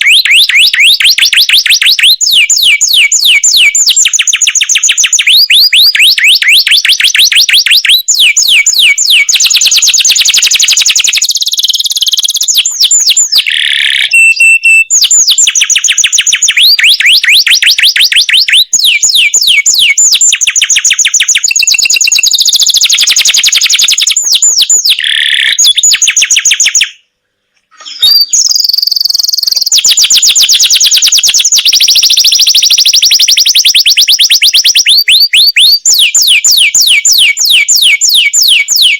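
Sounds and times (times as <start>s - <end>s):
canary singing trills: 0.0s - 27.0s, 27.6s - 38.9s.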